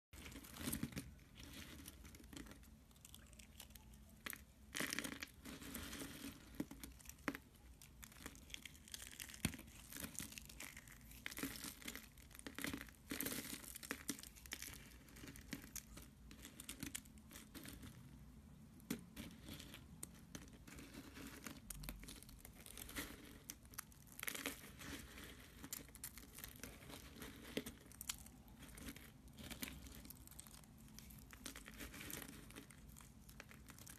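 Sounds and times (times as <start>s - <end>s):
soap flakes crunching in hands: 0.2s - 18.0s, 19.2s - 33.9s.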